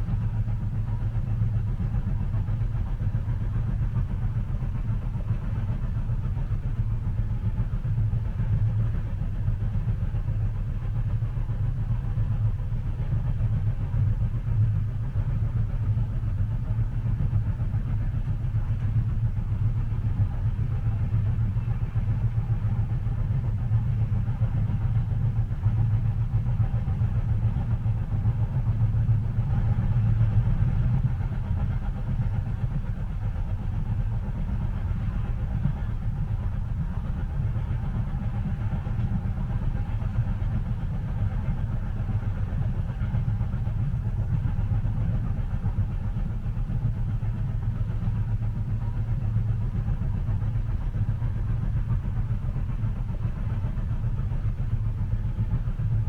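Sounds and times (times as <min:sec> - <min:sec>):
train rumble inside cabin: 0:00.0 - 0:56.0.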